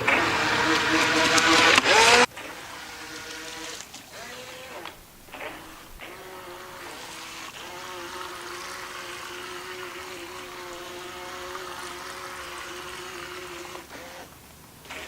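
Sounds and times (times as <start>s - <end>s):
electric motor whine: 0.0s - 15.0s
water hissing: 0.0s - 15.0s.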